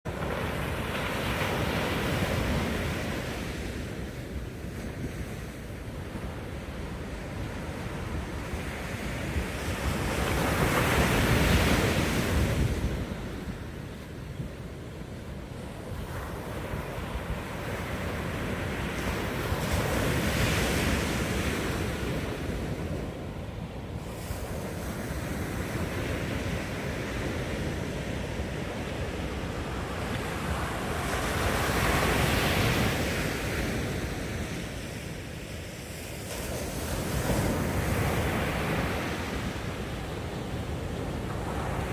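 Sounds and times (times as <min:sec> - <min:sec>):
ocean wave breaking on beach: 0:00.1 - 0:13.9, 0:15.8 - 0:41.9
wind buffeting microphone: 0:00.1 - 0:41.9.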